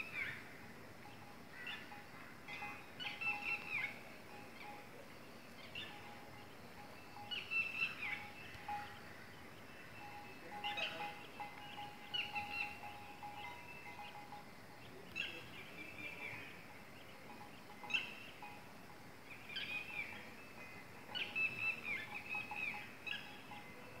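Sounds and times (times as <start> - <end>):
birds chirping: 0.0 - 24.0
faint steady hiss: 0.0 - 24.0
faint steady tone: 0.0 - 24.0.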